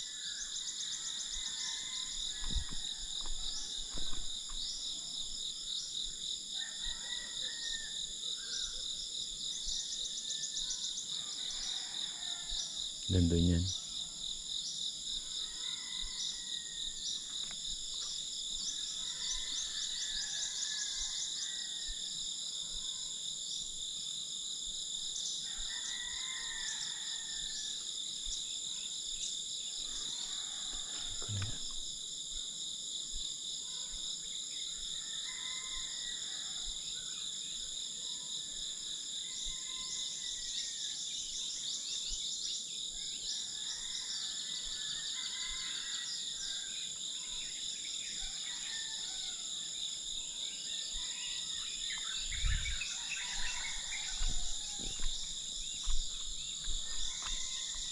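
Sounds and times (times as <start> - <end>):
crickets droning: 0.0 - 57.9
faint lower insect calls: 0.0 - 57.9
rapid ticking insect trills: 0.0 - 57.9.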